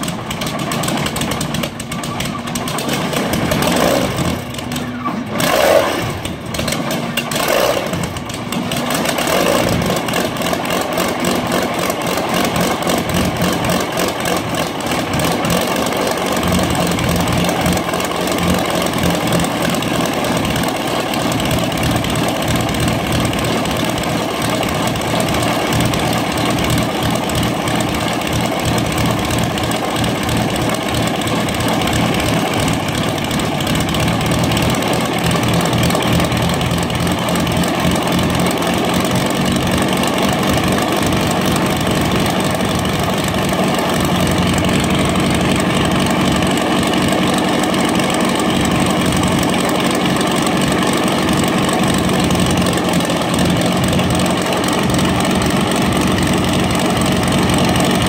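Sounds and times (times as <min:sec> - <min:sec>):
aircraft engine idling: 0:00.0 - 0:58.0.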